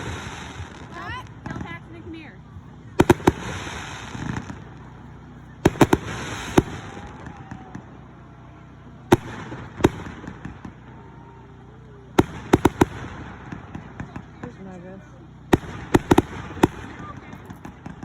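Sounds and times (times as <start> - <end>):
fireworks exploding: 0.0 - 18.0
hissing crackle of fireworks: 0.0 - 18.0.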